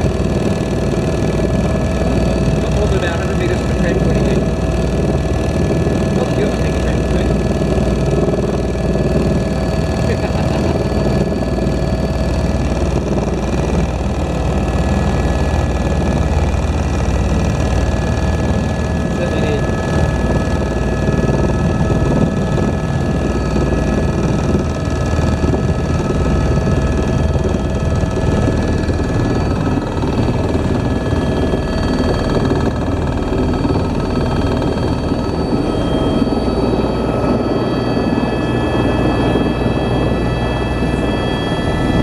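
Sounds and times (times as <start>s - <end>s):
helicopter engine and rotor drone: 0.0s - 42.0s
steady whine: 0.0s - 42.0s.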